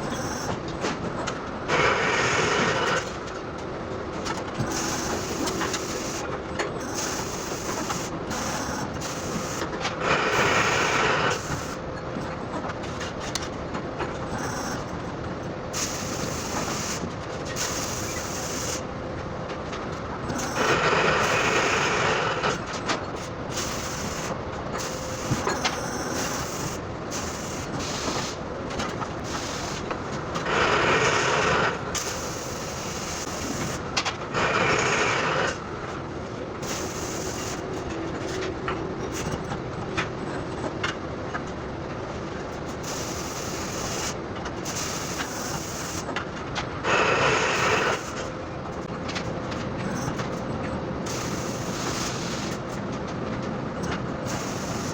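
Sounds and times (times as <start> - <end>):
machine mechanical hum: 0.0 - 54.9.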